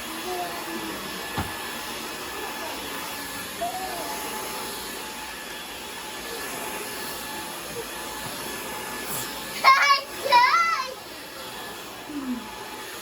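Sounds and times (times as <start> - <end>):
vacuum cleaner motor whirring: 0.0 - 13.0.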